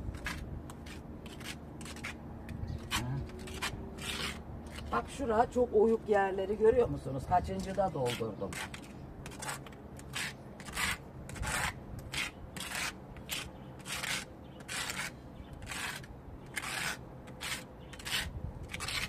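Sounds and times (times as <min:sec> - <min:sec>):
trowel scraping wet plaster: 0:00.1 - 0:05.1, 0:07.6 - 0:19.0.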